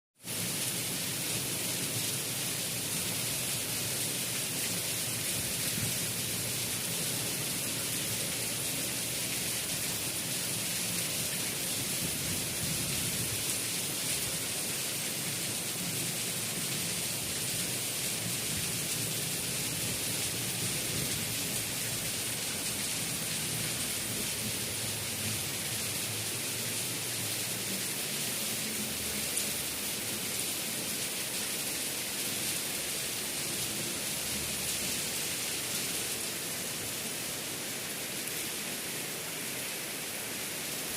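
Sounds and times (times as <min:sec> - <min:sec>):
heavy rain: 0:00.2 - 0:40.9.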